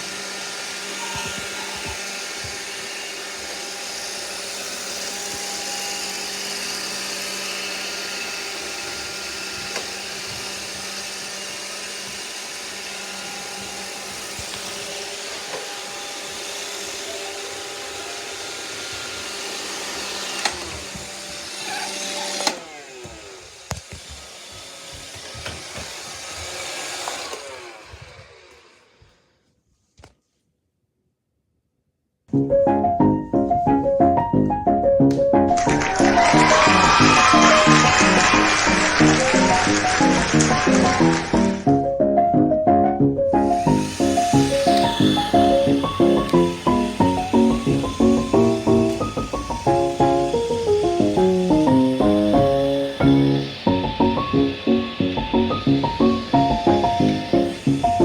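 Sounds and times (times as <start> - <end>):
robot vacuums whirring: 0.0 - 29.5, 33.9 - 42.0, 43.0 - 58.0.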